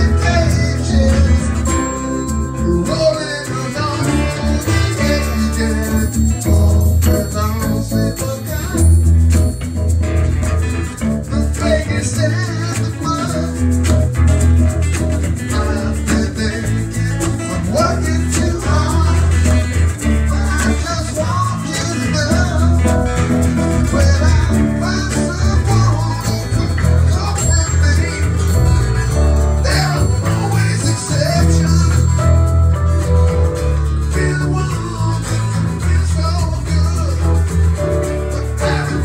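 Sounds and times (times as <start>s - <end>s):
acoustic guitar: 0.0s - 39.0s
electric guitar: 0.0s - 39.0s
electric keyboard: 0.0s - 39.0s
low bass notes: 0.0s - 39.0s.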